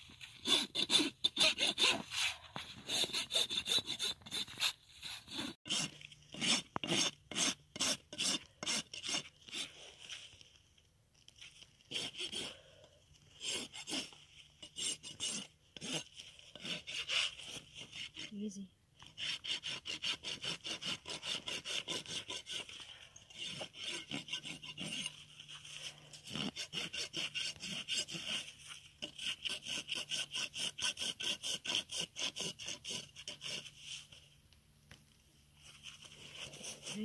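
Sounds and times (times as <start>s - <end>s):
rasp filing a hoof: 0.0s - 10.2s, 11.5s - 12.7s, 13.3s - 18.4s, 19.0s - 34.3s, 35.6s - 37.0s.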